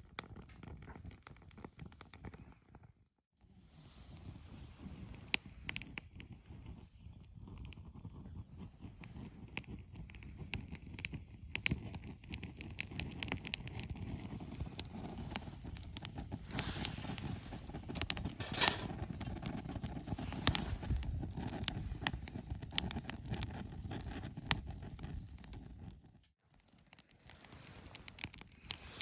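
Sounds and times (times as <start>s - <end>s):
campfire crackling and popping: 0.0s - 2.5s, 4.2s - 29.0s.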